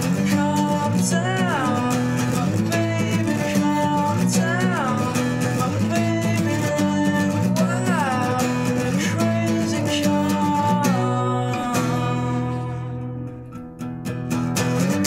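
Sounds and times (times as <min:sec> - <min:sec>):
acoustic guitar strumming chords: 0:00.0 - 0:15.0
sliding guitar melody line: 0:00.0 - 0:15.0.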